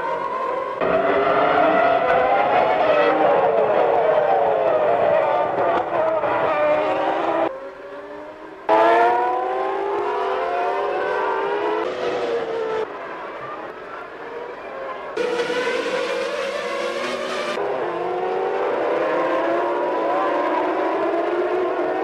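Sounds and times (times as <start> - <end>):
race car engines revving high: 0.0 - 13.5, 14.2 - 22.0.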